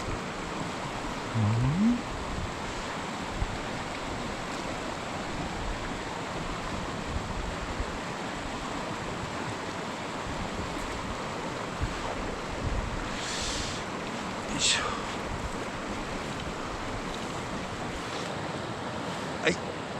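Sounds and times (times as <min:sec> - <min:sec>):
mountain stream rushing: 0:00.0 - 0:19.9.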